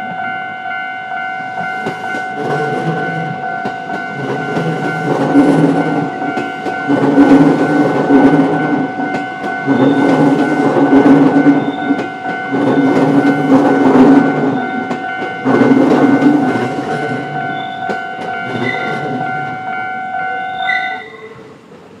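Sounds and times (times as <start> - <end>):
crossing warning bell ringing: 0.0 - 21.8
train wheels rumbling and clacking: 0.0 - 22.0.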